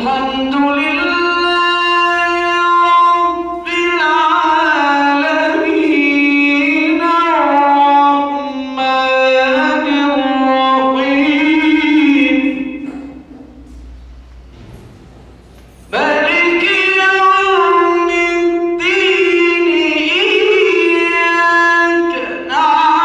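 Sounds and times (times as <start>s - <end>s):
man chanting into a microphone: 0.0s - 13.3s, 15.9s - 23.0s.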